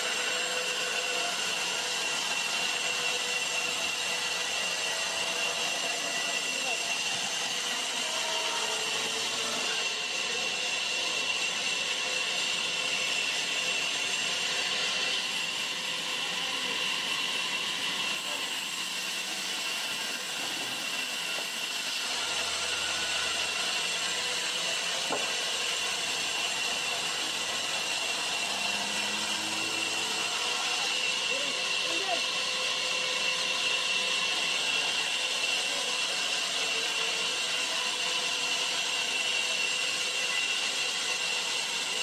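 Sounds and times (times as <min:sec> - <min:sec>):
band saw cutting timber: 0:00.0 - 0:42.0.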